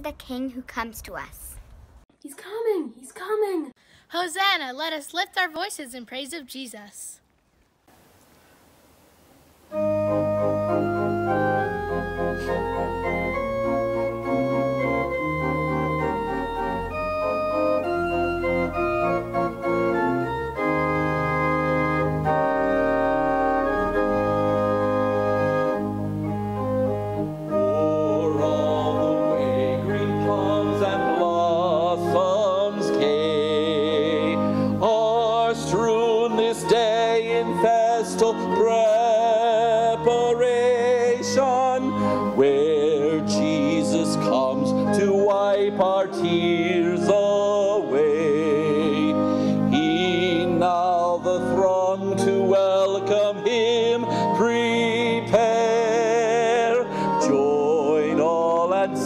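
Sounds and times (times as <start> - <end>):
organ chords: 9.4 - 59.0.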